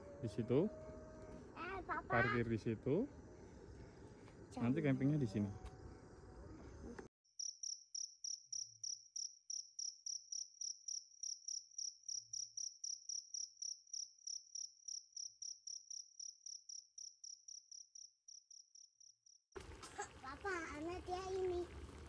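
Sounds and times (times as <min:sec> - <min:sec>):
cricket chirping: 0:00.0 - 0:19.5.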